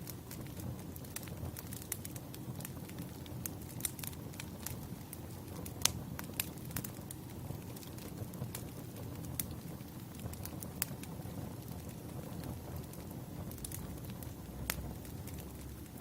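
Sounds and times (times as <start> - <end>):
fire pops and snaps: 0.0 - 16.0
wood fire crackling: 0.0 - 16.0.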